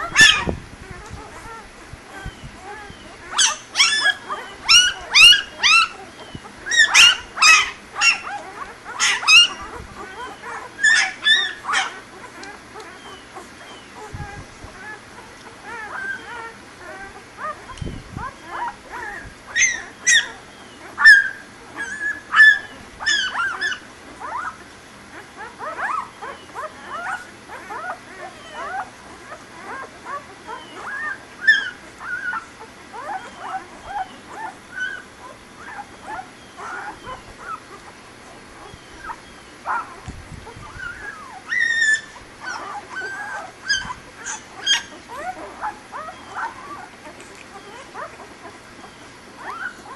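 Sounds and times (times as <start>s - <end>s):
puppies squeaking and whimpering: 0.0s - 49.9s.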